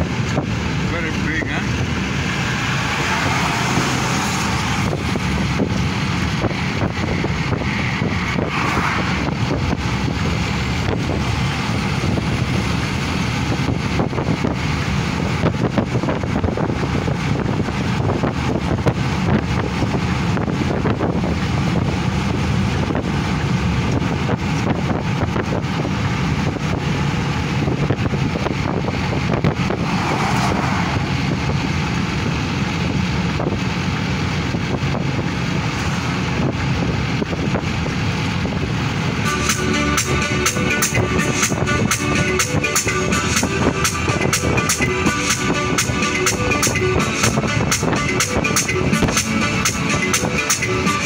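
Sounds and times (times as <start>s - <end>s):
wind buffeting microphone: 0.0s - 39.3s, 40.5s - 50.9s.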